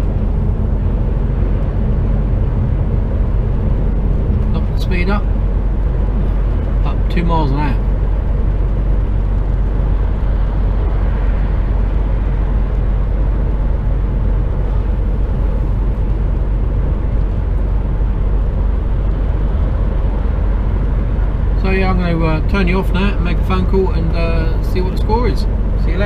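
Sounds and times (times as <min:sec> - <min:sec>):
road noise: 0:00.0 - 0:26.0
truck diesel engine drone: 0:00.0 - 0:26.0.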